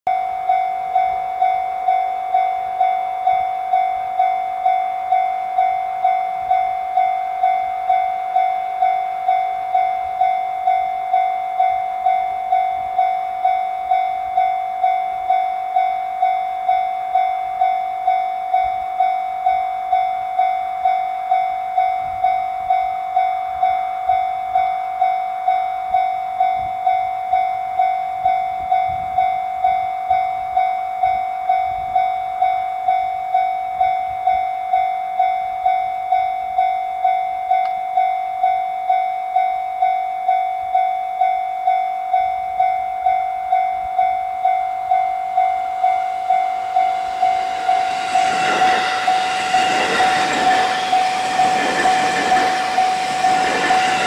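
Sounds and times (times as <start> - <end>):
level crossing warning bell: 0.1 - 54.0.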